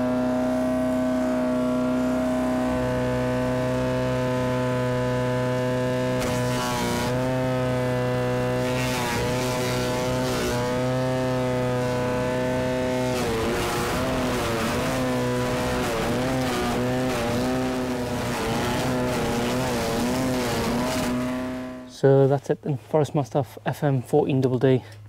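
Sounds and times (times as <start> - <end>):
wood chipper engine running: 0.0 - 21.9
wood crunching through chipper: 1.3 - 21.9.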